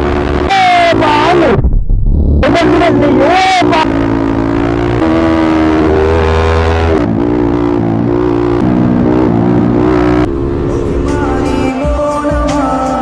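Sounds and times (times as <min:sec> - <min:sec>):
motorcycle engine running hard: 0:00.0 - 0:01.6, 0:02.4 - 0:12.0.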